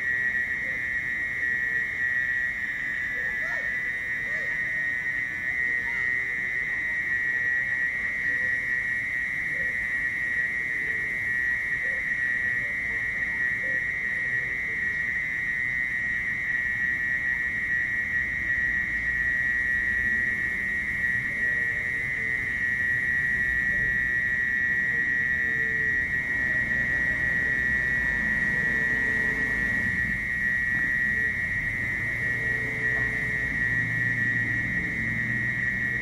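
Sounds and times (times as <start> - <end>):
mole cricket trilling: 0.0 - 36.0.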